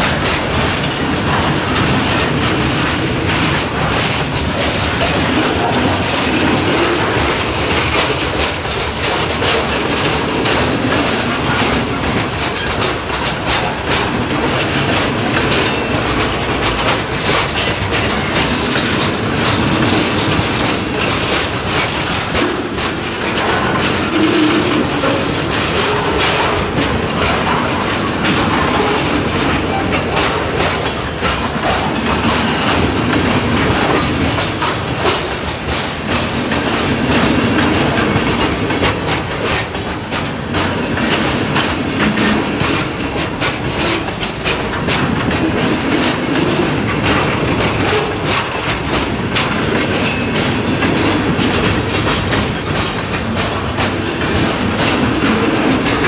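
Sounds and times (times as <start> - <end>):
train wheels rumbling on rail: 0.0 - 56.0
wheels clicking over rail joints: 0.0 - 56.0.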